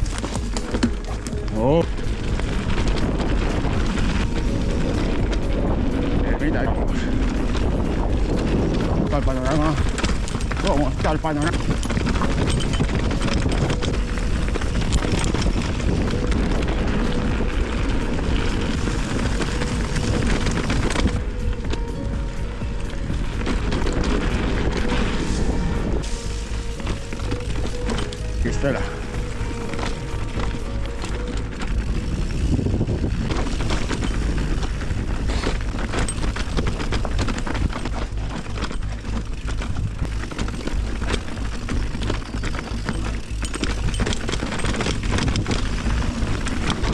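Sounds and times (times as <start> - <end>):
bicycle rattling clicks: 0.0 - 46.9
wind buffeting microphone: 0.0 - 46.9.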